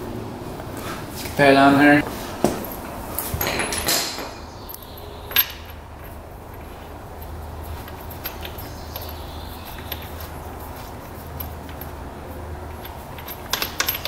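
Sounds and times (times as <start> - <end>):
metal tools clinking: 2.6 - 14.0.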